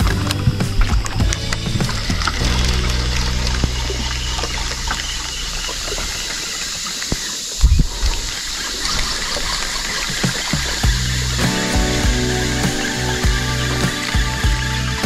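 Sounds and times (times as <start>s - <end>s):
low hum: 0.0s - 15.0s
water trickling and splashing: 0.0s - 15.0s.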